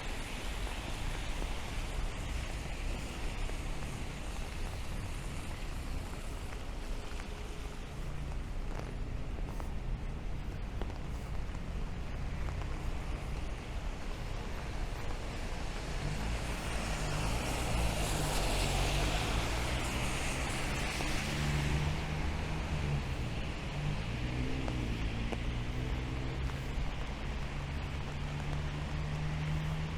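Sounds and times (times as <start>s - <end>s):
rain hissing: 0.0s - 29.9s
vehicle passing on wet street: 0.0s - 29.9s.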